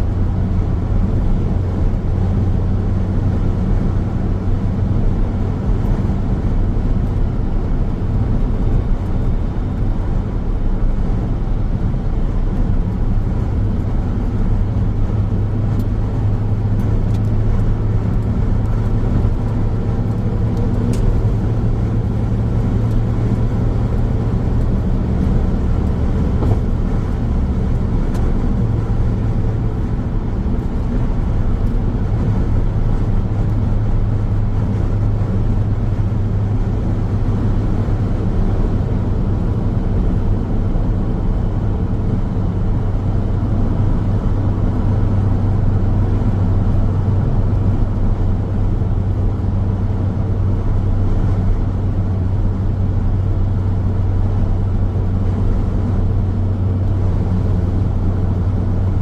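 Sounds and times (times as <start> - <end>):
car road noise drone: 0.0 - 59.0.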